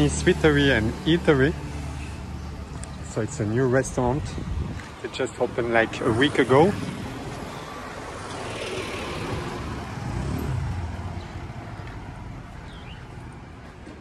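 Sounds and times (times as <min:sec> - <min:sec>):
passing vehicle engine and tyres: 0:00.0 - 0:14.0.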